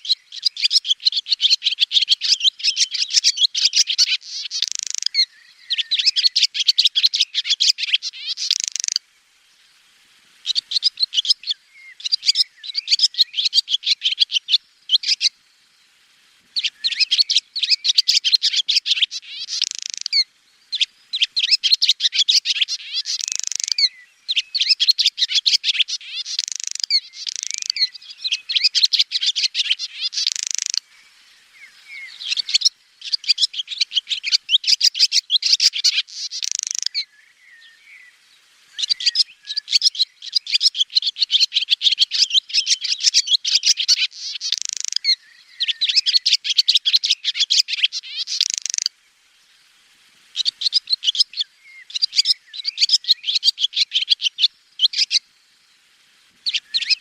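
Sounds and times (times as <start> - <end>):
swallow twittering: 0.0 - 9.0, 10.4 - 15.8, 16.6 - 48.9, 50.3 - 55.3, 56.4 - 57.0.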